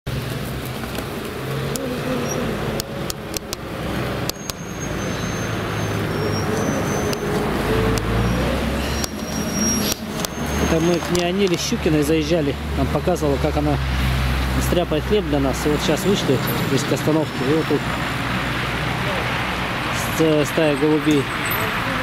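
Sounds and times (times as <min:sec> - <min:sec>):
road traffic rumble: 0:00.1 - 0:22.0.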